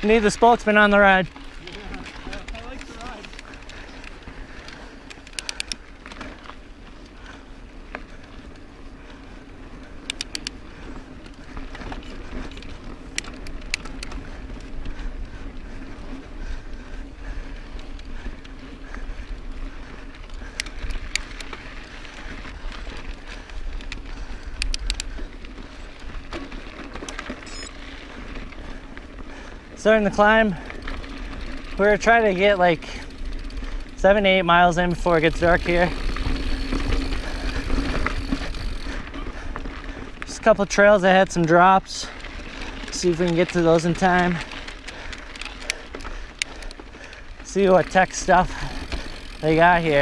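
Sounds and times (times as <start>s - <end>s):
bike clicks and rattles: 0.0s - 50.0s
tyre and wind noise: 0.0s - 50.0s.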